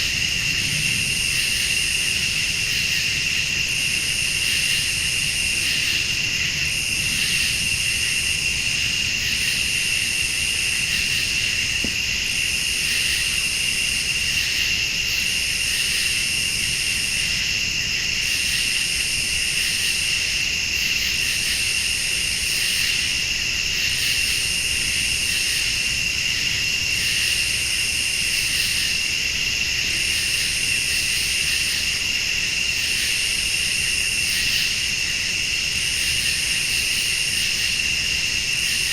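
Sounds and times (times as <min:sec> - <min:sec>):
crickets steady high trill: 0:00.0 - 0:38.9
high-pitched insect call: 0:00.0 - 0:38.9.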